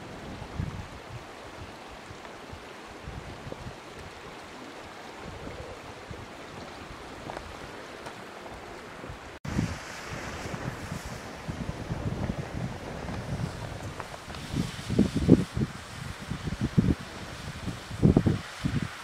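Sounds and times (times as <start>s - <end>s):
stream rushing over rocks: 0.0s - 19.0s
wind buffeting microphone: 0.0s - 19.0s.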